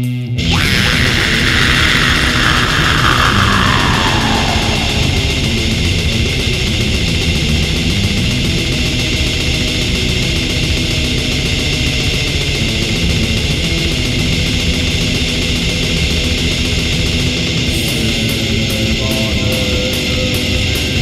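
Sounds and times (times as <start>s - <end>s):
distorted guitar and drums: 0.0s - 21.0s.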